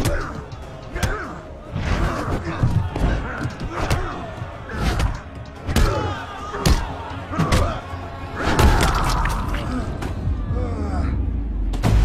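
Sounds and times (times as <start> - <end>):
dramatic film score music: 0.0 - 12.0.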